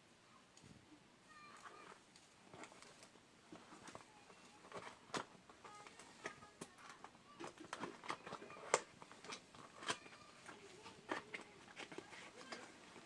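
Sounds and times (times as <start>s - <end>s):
clicks and taps of handling packaging: 1.6s - 13.0s.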